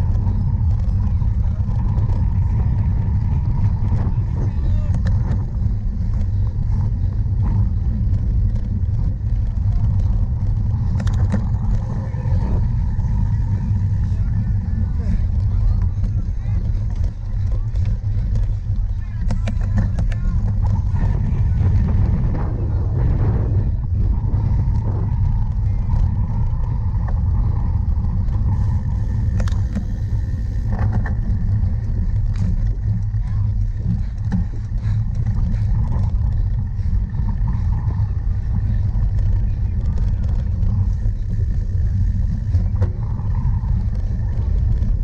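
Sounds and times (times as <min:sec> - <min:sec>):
bike clicks and rattles: 0:00.0 - 0:45.0
rumbling wind and ride noise: 0:00.0 - 0:45.0.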